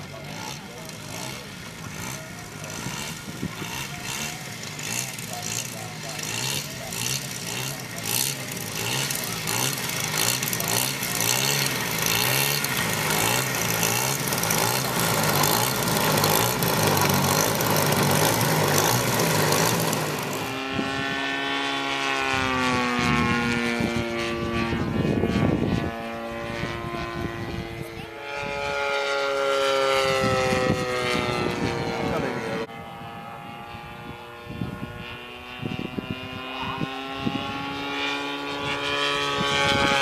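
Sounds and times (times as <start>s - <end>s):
model plane droning in flight: 0.0s - 40.0s
model plane engine running rough: 0.0s - 40.0s.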